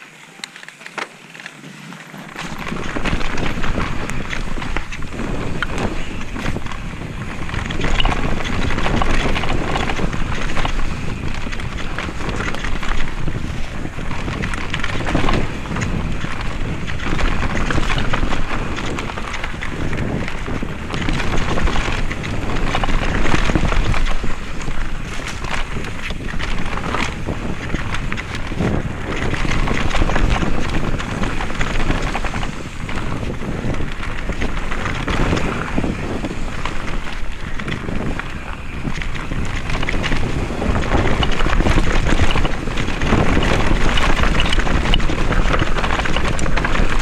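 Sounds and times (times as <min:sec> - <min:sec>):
tyre noise: 0:00.0 - 0:47.0
bike clattering over rocks: 0:02.2 - 0:47.0
wind buffeting microphone: 0:02.2 - 0:47.0.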